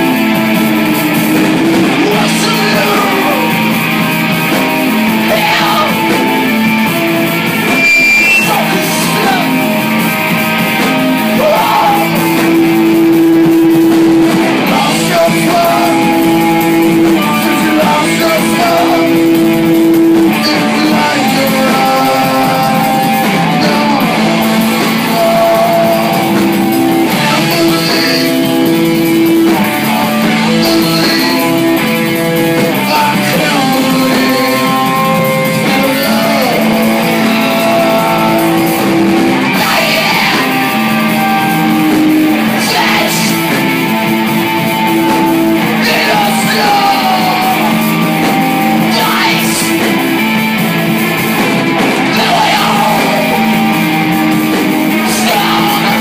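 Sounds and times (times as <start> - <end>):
bass guitar: 0.0 - 56.0
drums: 0.0 - 56.0
electric guitar: 0.0 - 56.0
person singing and shouting: 0.0 - 56.0.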